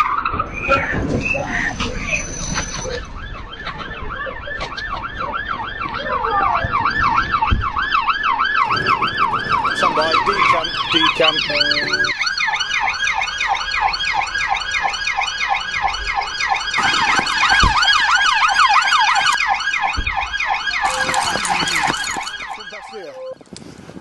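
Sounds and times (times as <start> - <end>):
police siren yelp: 0.0 - 23.4.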